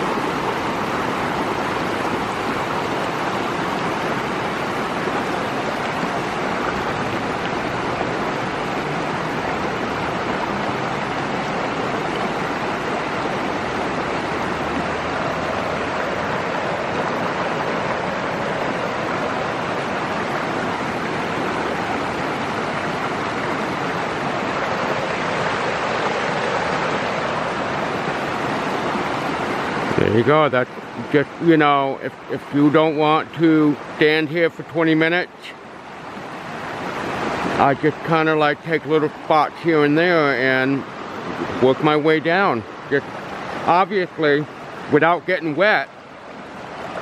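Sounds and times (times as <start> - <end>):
creek rushing over rocks: 0.0 - 47.0.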